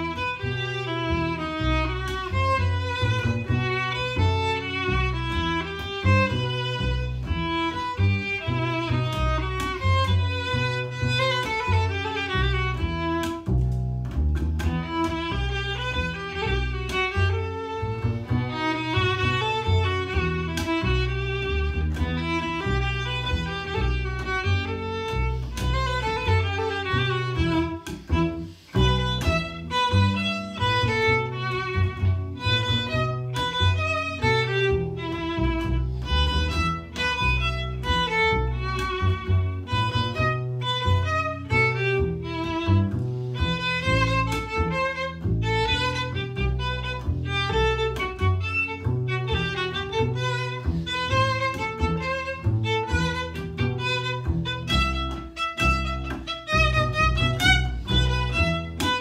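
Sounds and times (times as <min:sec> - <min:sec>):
bowed double bass: 0:00.0 - 0:59.0
violin running notes: 0:00.0 - 0:59.0.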